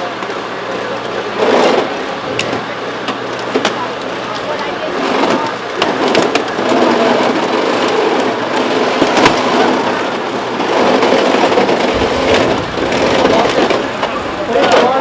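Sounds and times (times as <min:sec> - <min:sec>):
noisy machine din: 0:00.0 - 0:15.0.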